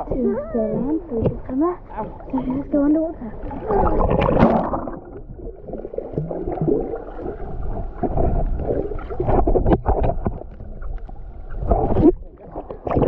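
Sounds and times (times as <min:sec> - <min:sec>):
sea water splashing and gurgling: 0:01.0 - 0:13.0.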